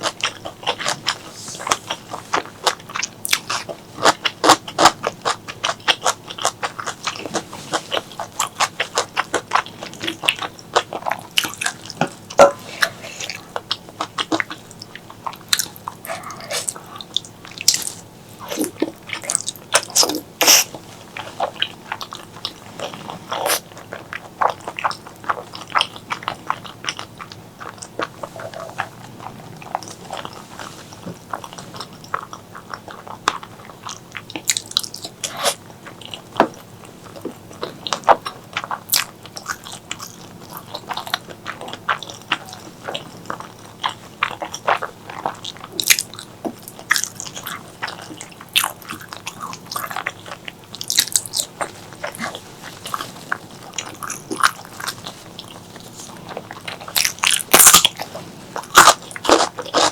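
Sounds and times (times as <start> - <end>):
close chewing and mouth sounds: 0.0 - 59.9.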